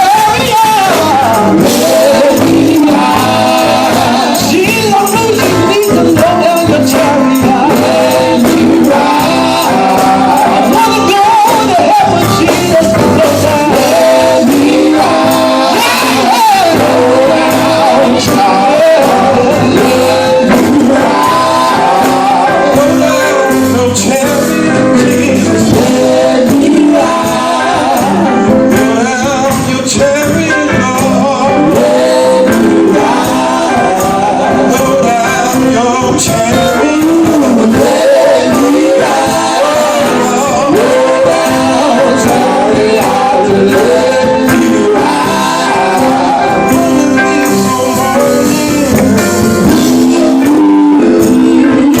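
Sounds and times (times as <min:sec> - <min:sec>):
instrumental backing: 0:00.0 - 0:52.0
male gospel group singing: 0:00.0 - 0:52.0.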